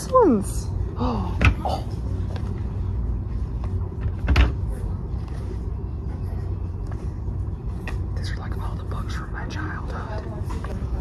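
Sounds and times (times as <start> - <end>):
store background rumble: 0.0 - 11.0.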